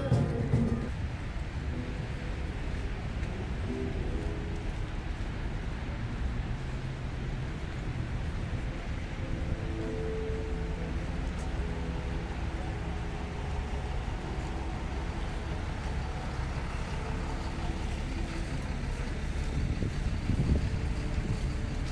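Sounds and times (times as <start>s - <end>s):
city street traffic rumble: 0.0s - 21.9s.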